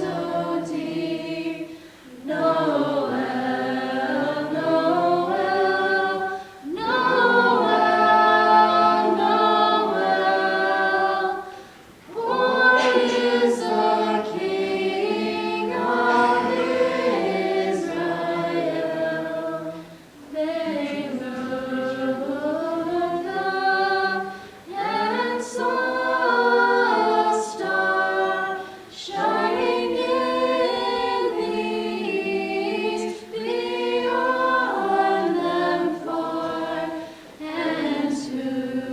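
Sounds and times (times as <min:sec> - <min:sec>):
a cappella group singing in harmony: 0:00.0 - 0:38.9.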